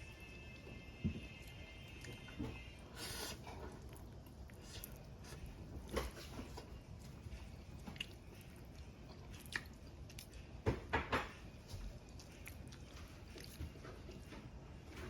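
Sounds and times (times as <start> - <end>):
person chewing food: 1.2 - 10.6, 11.5 - 14.5.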